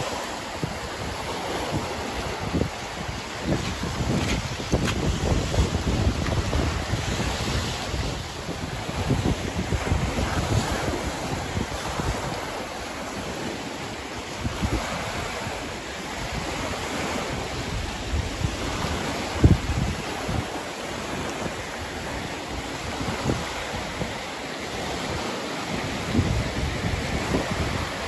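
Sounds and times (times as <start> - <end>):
waves breaking on rocky shore: 0.0 - 28.0
wind buffeting microphone: 0.0 - 28.0.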